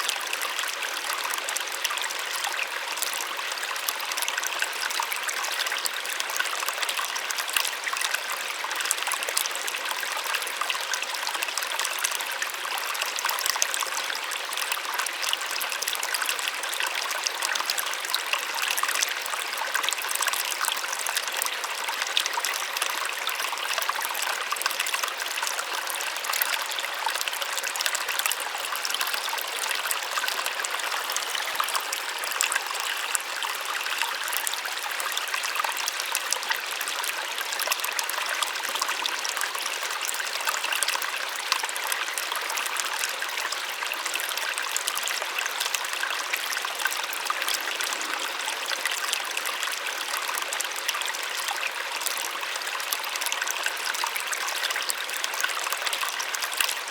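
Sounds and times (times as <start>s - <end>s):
small waterfall splashing: 0.0s - 56.9s.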